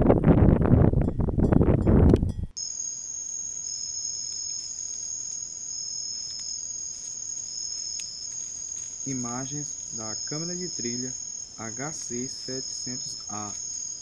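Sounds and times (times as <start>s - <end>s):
night insects trilling: 2.6s - 14.0s.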